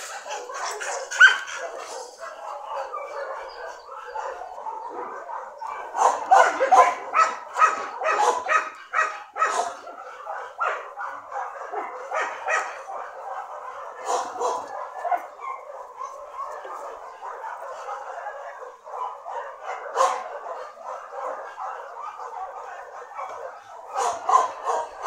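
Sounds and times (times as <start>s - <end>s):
dog barking and yipping: 0.0s - 25.0s
dog yelping: 0.0s - 25.0s.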